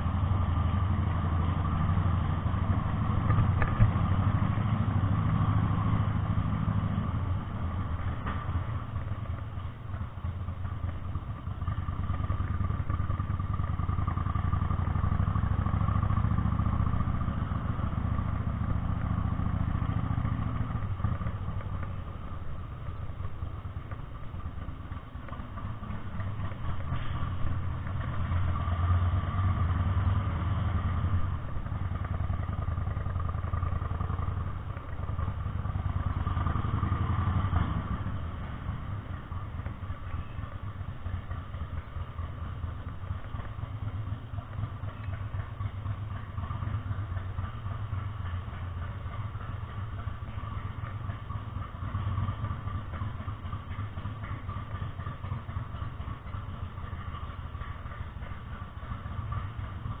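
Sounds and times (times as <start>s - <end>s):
motorcycle engine puttering: 0.0s - 60.0s.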